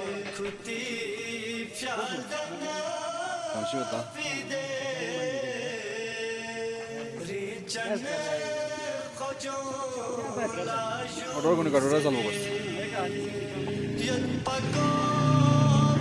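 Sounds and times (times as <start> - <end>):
person singing chant-like melody: 0.0 - 16.0.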